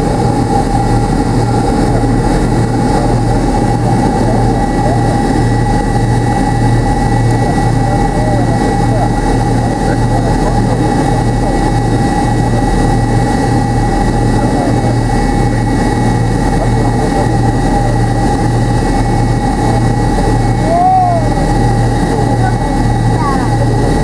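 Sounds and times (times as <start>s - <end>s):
jet engines rumbling and whining: 0.0s - 24.0s.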